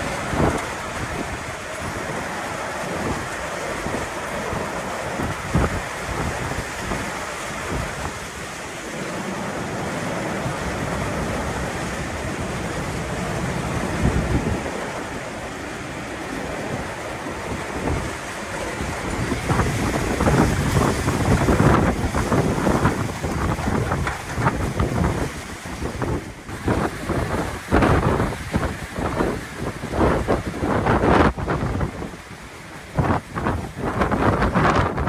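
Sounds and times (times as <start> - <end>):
storm winds gusting: 0.0 - 35.0
wind buffeting microphone: 0.0 - 35.0.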